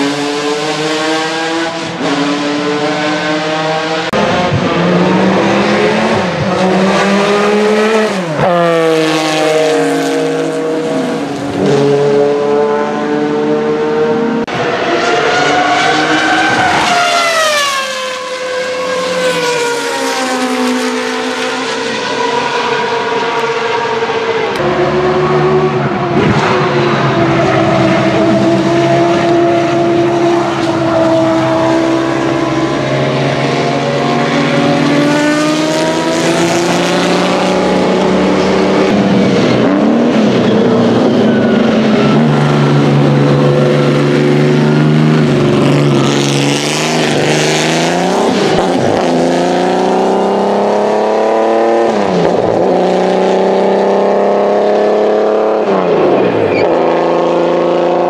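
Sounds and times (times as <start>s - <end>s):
racing car engine accelerating: 0.0s - 58.0s.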